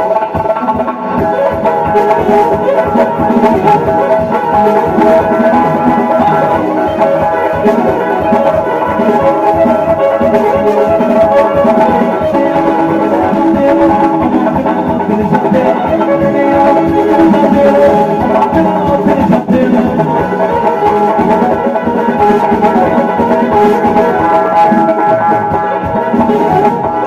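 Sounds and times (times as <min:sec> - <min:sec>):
music with drums and percussion: 0:00.0 - 0:27.0.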